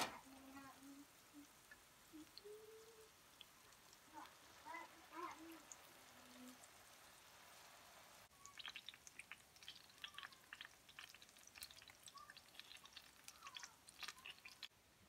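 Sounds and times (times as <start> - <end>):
patties frying in oil: 0.0 - 14.8.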